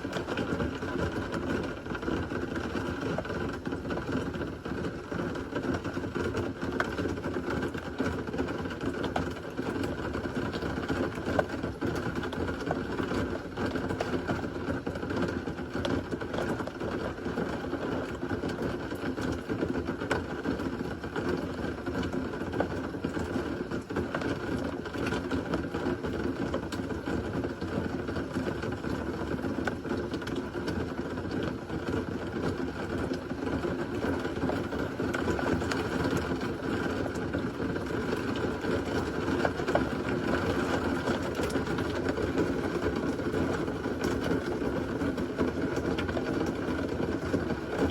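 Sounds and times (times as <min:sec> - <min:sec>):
raindrops ticking on a surface: 0:00.0 - 0:47.9.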